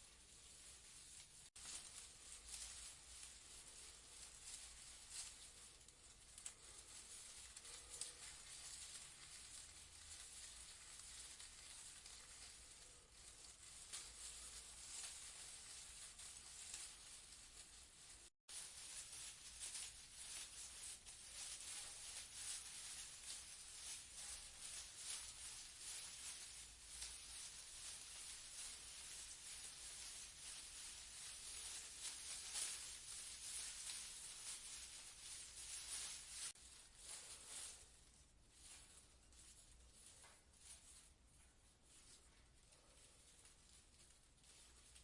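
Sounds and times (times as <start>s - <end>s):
leaves rustling in a breeze: 0.0s - 45.0s.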